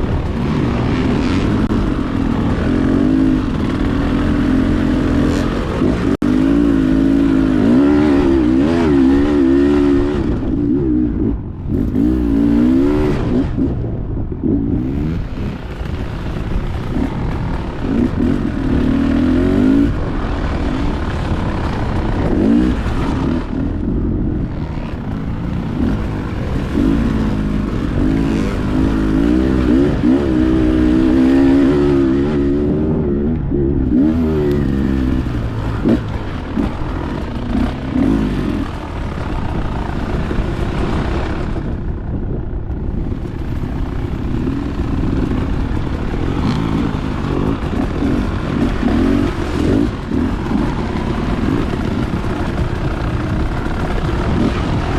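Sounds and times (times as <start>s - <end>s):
dirt bike engine revving: 0.0s - 41.8s, 43.0s - 54.9s.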